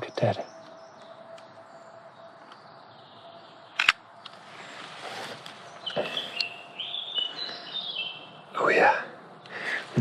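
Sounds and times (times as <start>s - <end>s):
faint outdoor background: 0.0s - 10.0s.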